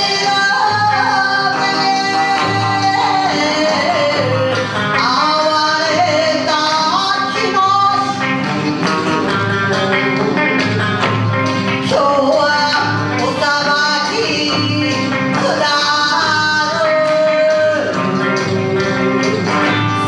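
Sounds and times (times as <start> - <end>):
instrumental backing: 0.0 - 20.0
woman singing: 0.0 - 20.0.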